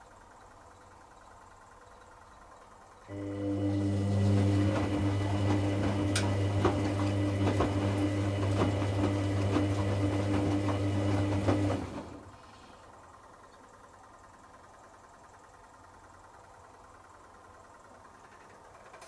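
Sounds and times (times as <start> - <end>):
washing machine pump humming: 0.1 - 18.9.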